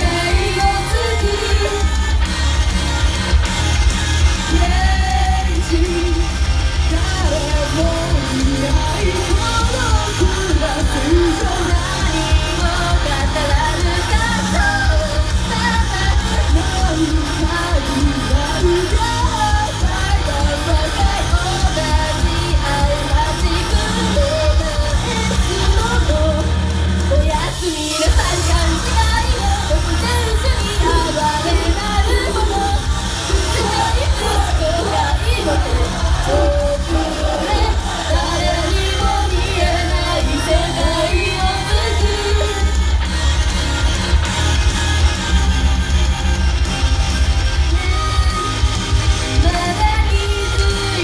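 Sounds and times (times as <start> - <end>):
women singing: 0.0 - 2.2, 4.5 - 26.5, 27.2 - 43.0, 49.4 - 51.0
loud pop rock music: 0.0 - 51.0.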